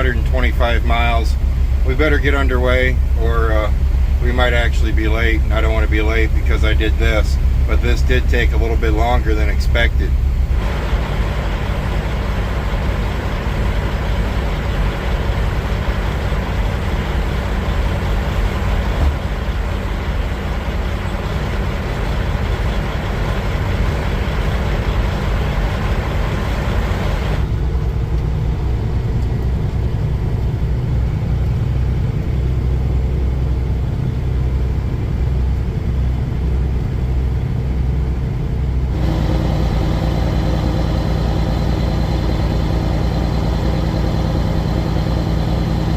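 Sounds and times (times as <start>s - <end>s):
diesel engine hum: 0.0s - 45.9s.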